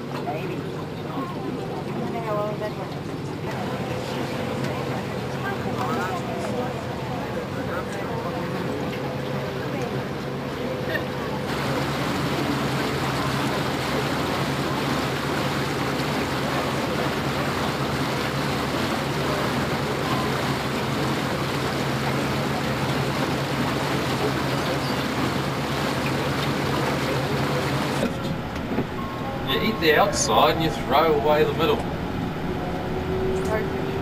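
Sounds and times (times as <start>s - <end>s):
boat motor humming: 0.0s - 34.0s
rush of wind and water: 0.0s - 34.0s.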